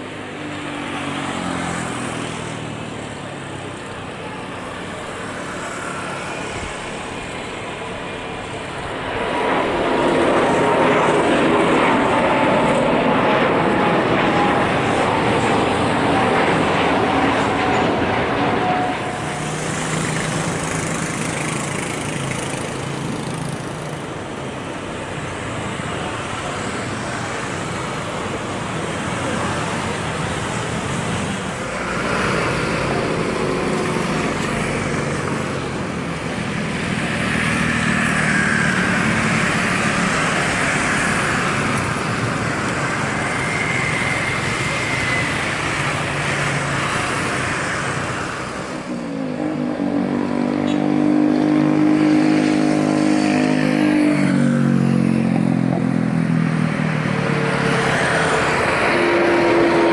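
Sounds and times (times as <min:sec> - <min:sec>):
jet engines climbing drone: 0:00.0 - 0:59.9
jet engines taxiing rushing noise: 0:00.0 - 0:59.9.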